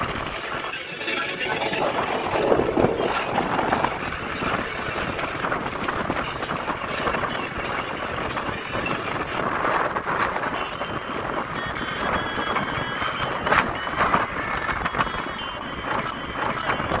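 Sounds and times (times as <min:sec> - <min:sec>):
scooter rattling clatter: 0:00.0 - 0:17.0
wind and road noise: 0:00.0 - 0:17.0.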